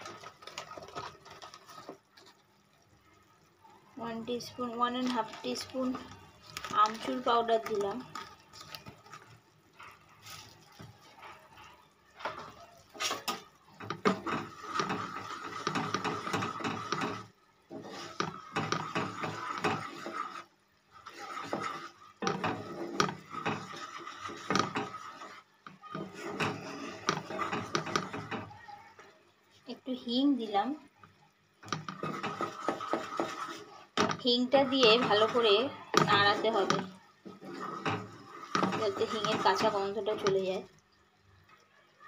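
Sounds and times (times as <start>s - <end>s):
spatula scraping a frying pan: 0.0s - 2.4s, 5.2s - 28.5s, 31.6s - 40.4s
thick syrup bubbling: 0.0s - 42.0s.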